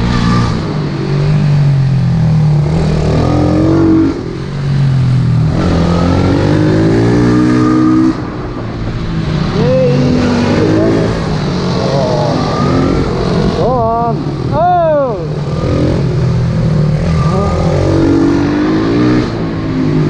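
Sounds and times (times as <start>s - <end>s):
motorbike engine accelerating: 0.0s - 20.0s.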